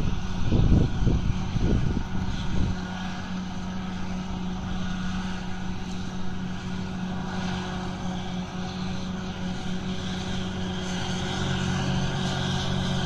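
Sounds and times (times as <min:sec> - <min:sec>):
distant tractor engine droning: 0:00.0 - 0:13.0
wind buffeting on microphone: 0:00.0 - 0:13.0.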